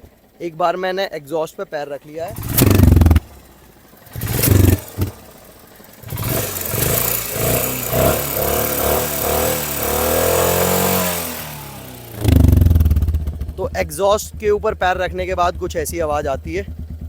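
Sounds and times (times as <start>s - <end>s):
motorcycle engine revving: 0.0s - 0.4s, 2.1s - 17.0s.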